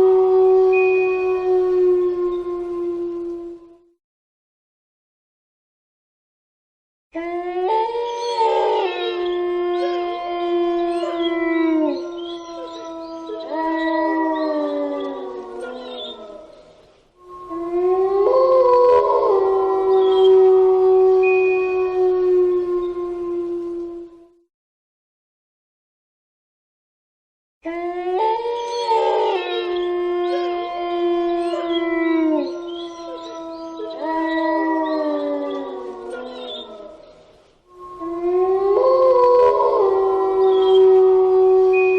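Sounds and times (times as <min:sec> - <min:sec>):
long howls: 0:00.0 - 0:04.0, 0:07.2 - 0:24.5, 0:27.6 - 0:41.9.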